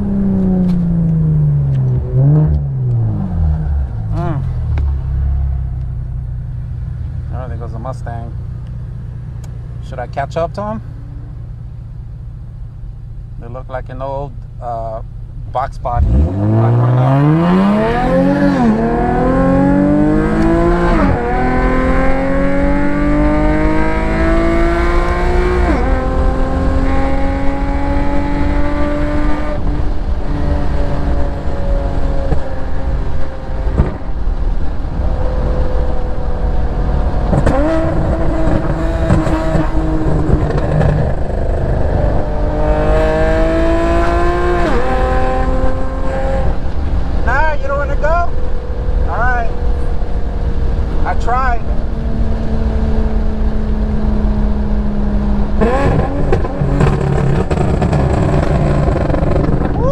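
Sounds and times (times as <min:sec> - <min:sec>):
car engine revving through shifts: 0:00.0 - 0:05.9, 0:15.5 - 0:59.8.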